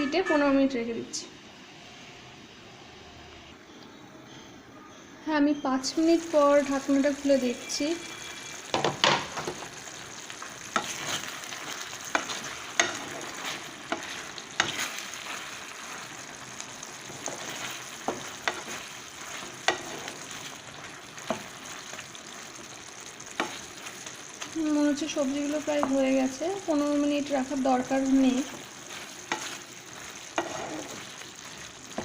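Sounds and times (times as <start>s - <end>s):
steady sizzle: 5.3s - 32.0s.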